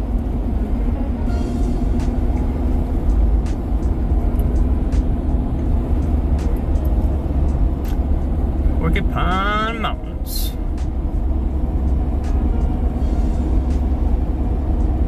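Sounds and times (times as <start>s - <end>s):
engine and tyre rumble: 0.0s - 15.0s
road hiss: 0.0s - 15.0s.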